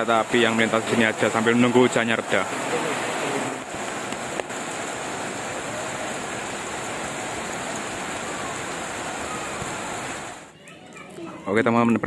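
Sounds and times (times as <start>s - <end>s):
heavy rain falling: 0.0s - 10.5s.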